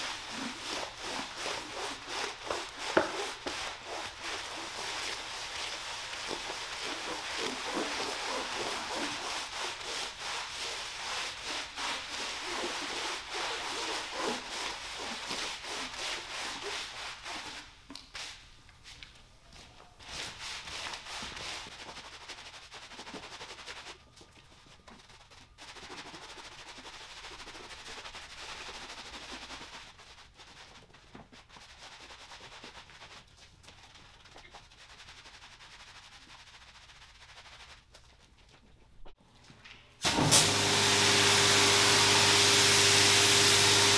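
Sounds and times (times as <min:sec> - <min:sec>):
scrub brushes scrubbing wet rug: 0:00.0 - 0:17.7, 0:20.2 - 0:24.0, 0:24.9 - 0:38.2, 0:40.1 - 0:43.9.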